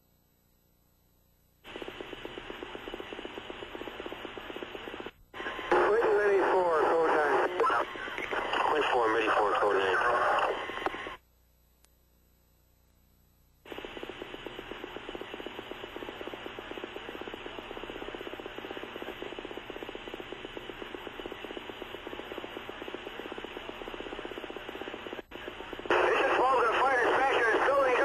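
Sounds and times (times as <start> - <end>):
radio static hiss fluttering: 1.6 - 11.2, 13.5 - 28.0.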